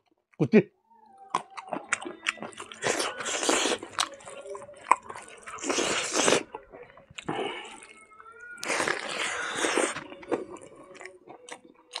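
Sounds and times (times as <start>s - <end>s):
man chewing with wet crunching: 1.3s - 12.0s.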